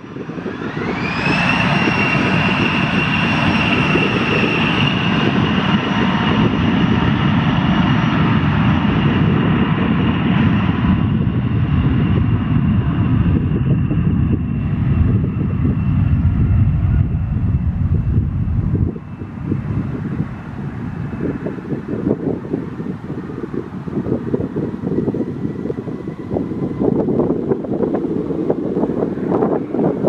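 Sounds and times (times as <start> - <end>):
jet engines whining and rumbling: 0.0 - 30.0.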